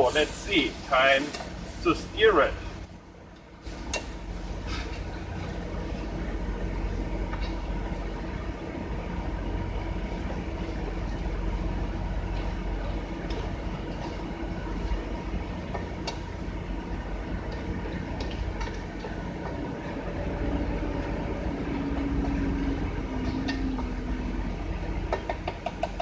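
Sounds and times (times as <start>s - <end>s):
generator humming: 0.0s - 26.0s.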